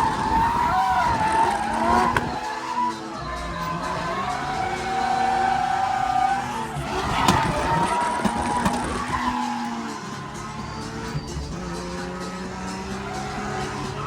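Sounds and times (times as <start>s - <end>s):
car engine revving hard: 0.0s - 14.0s
tyres skidding: 0.0s - 14.0s.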